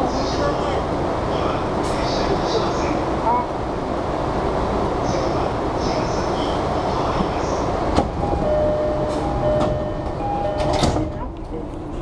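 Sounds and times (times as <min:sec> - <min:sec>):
train car interior noise: 0:00.0 - 0:12.0.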